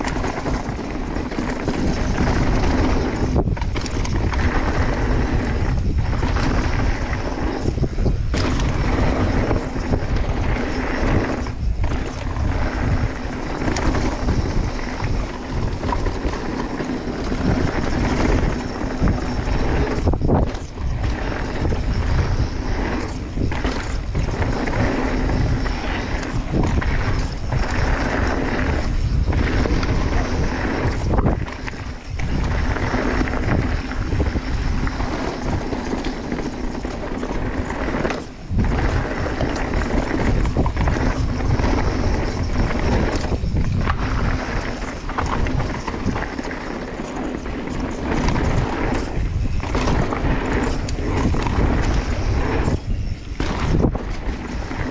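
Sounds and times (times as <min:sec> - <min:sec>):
bike rattling over rocks: 0:00.0 - 0:54.9
bike tyres rumbling: 0:00.0 - 0:54.9
wind rushing over microphone: 0:00.0 - 0:54.9.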